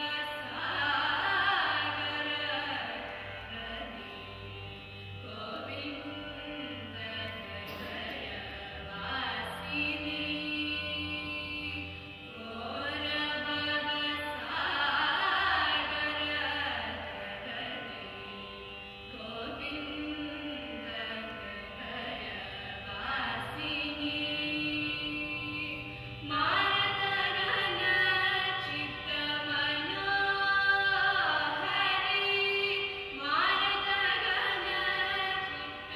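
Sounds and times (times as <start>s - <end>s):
steady drone: 0.0s - 35.9s.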